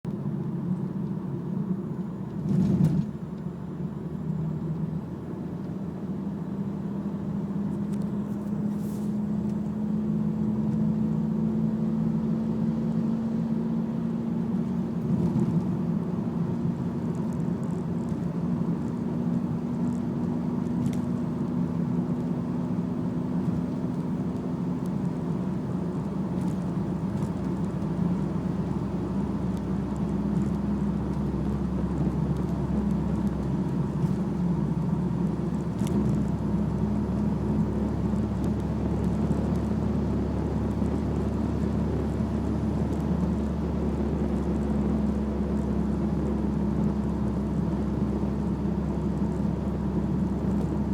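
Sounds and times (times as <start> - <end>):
car low hum: 0.0 - 50.9.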